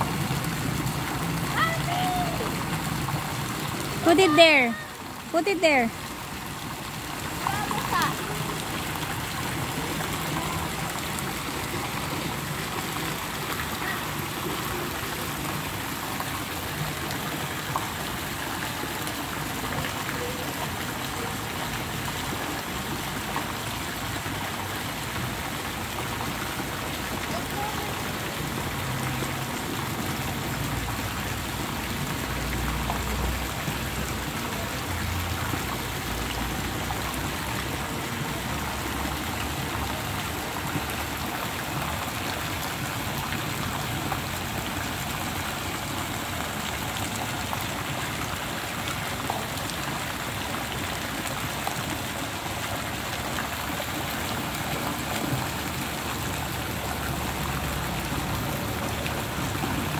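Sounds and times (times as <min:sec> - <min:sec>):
water splashing into pool: 0:00.0 - 0:59.9.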